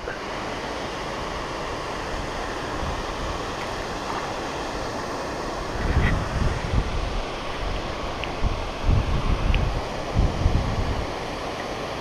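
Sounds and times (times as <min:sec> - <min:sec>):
wind on microphone: 0:01.3 - 0:12.0.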